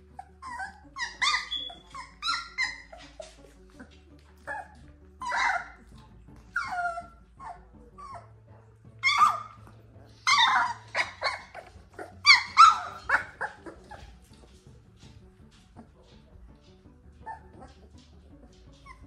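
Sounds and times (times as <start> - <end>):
puppies squeaking and yelping: 0.0 - 8.3, 9.0 - 14.6, 17.2 - 19.0.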